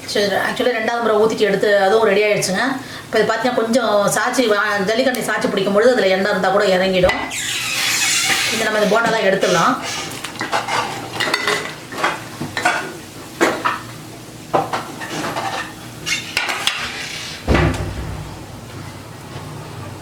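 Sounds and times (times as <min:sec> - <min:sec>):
oil sizzling: 0:00.9 - 0:20.0.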